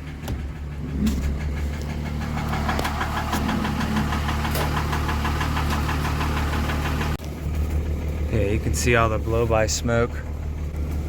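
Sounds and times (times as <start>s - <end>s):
diesel engine idling with knock: 0.0s - 11.0s.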